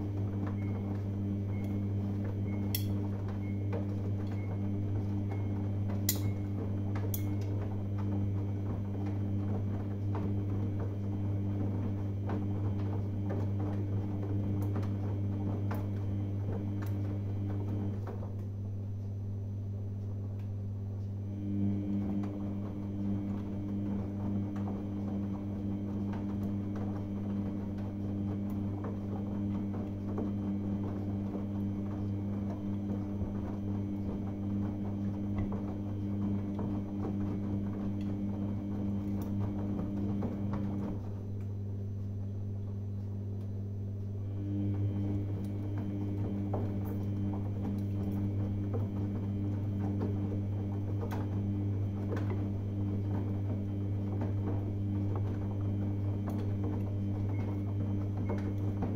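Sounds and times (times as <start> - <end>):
wet laundry tumbling and knocking: 0.0 - 18.8, 21.5 - 58.9
washing machine motor hum: 0.0 - 58.9.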